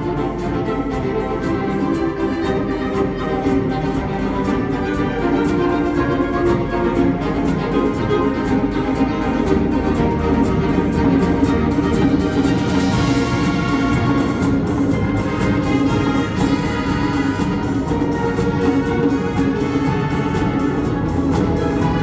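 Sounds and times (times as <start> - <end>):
fast ticking percussion: 0.0 - 22.0
saxophone quartet chords: 0.0 - 22.0
wind band playing: 0.0 - 22.0.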